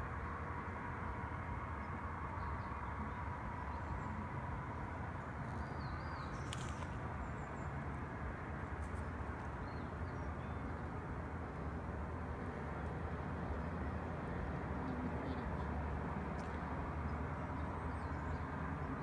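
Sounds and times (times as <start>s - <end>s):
rushing outdoor background noise: 0.0s - 19.0s.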